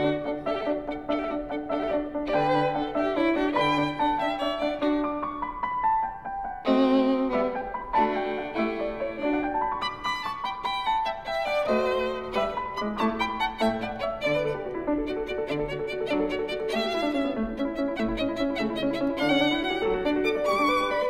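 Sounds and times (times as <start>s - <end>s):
violin background music: 0.0s - 21.0s.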